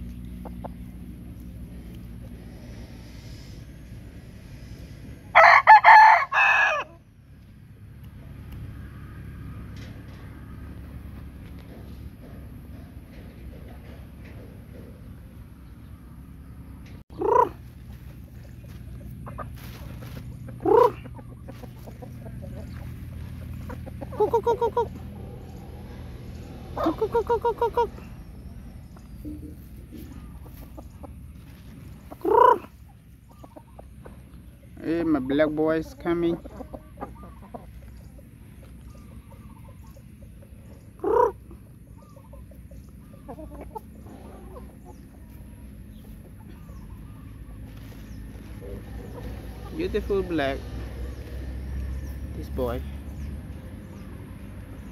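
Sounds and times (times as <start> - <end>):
chickens clucking and squawking: 0.0 - 54.9
steady low hum: 0.0 - 54.9.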